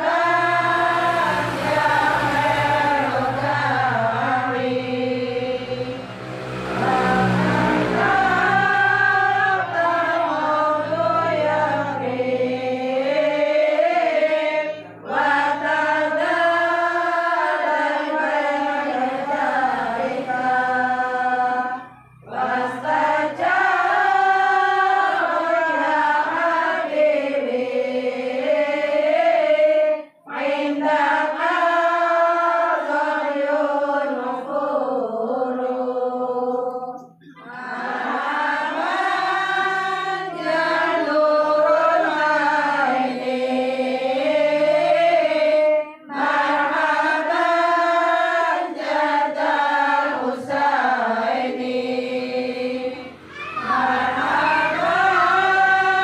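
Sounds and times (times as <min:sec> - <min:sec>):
group of voices chanting: 0:00.0 - 0:56.0.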